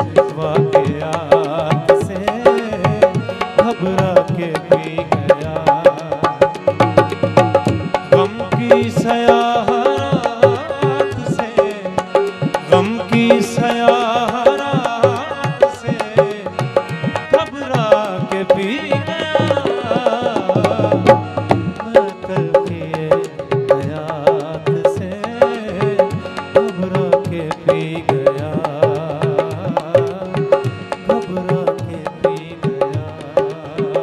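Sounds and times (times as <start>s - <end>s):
harmonium playing: 0.0s - 34.0s
person singing: 0.0s - 34.0s
tabla strokes: 0.0s - 34.0s.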